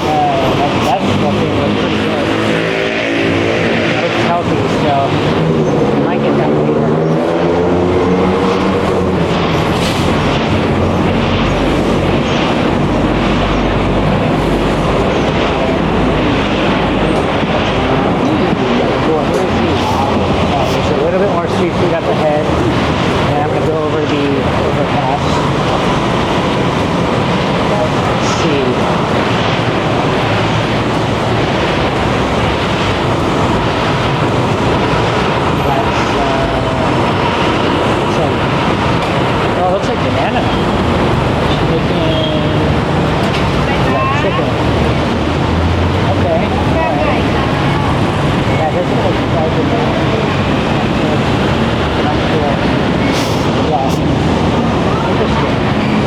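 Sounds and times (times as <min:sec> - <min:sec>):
low traffic rumble: 0:00.0 - 0:56.0
vehicle engines running: 0:00.0 - 0:56.0.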